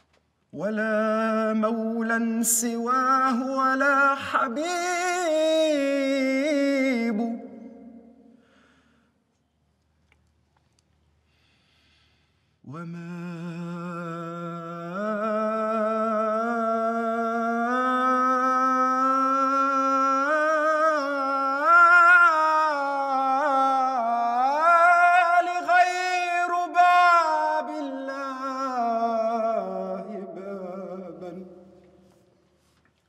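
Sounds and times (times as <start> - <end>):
man singing melismatic chant: 0.6 - 8.2, 12.7 - 32.0.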